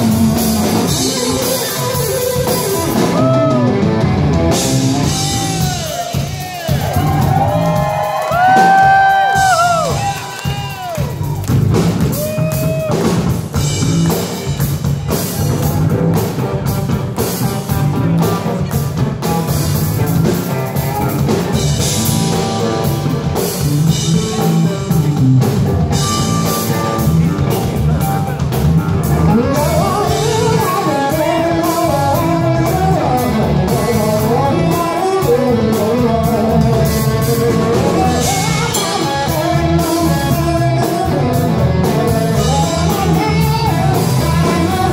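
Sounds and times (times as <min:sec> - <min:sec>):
rock band playing loud: 0:00.0 - 0:44.9.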